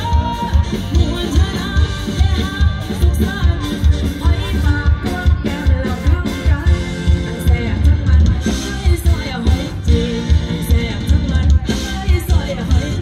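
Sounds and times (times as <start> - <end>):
bass guitar: 0.0 - 13.0
drum kit steady beat: 0.0 - 13.0
electric guitars: 0.0 - 13.0
woman singing into microphone: 0.0 - 13.0.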